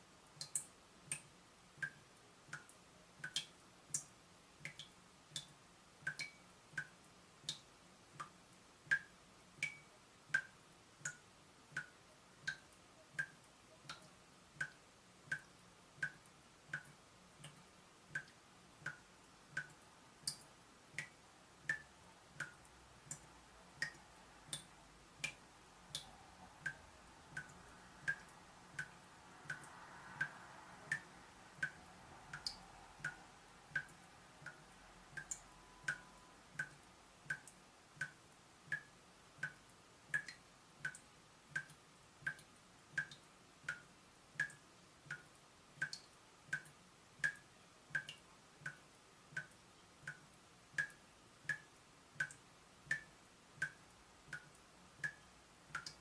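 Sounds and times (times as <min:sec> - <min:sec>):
water dripping from a tap: 0:00.3 - 0:56.0.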